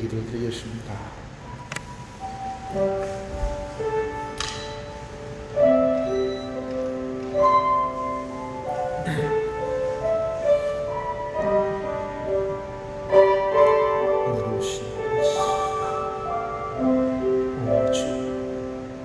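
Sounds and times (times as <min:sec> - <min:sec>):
slow soft keyboard music: 0:00.0 - 0:19.0.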